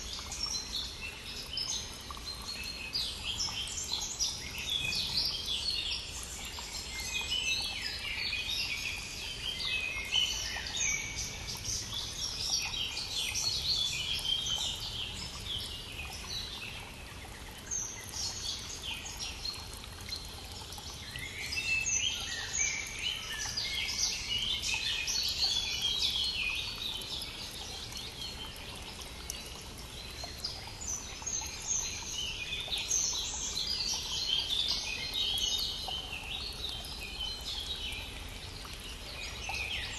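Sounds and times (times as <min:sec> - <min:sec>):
brook running water: 0:00.0 - 0:39.9
songbirds singing: 0:00.0 - 0:39.9.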